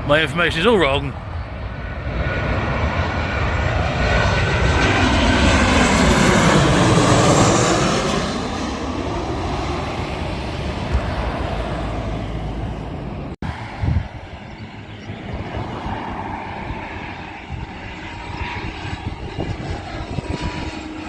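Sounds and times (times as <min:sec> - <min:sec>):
jet passing low overhead: 0:00.0 - 0:21.0.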